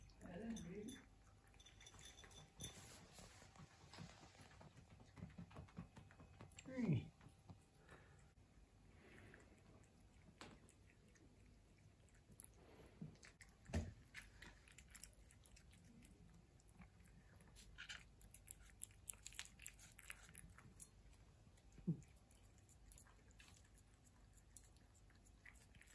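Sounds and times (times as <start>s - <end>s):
cats chewing food: 1.0s - 25.9s.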